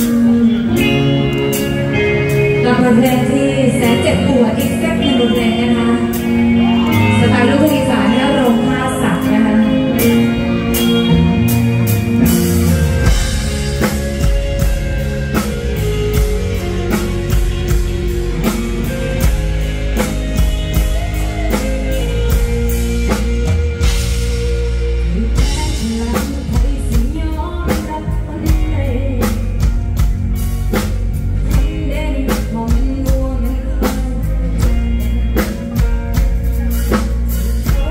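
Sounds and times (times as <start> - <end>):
drum kit beat: 0.0 - 37.9
electric bass: 0.0 - 37.9
electric guitar: 0.0 - 37.9.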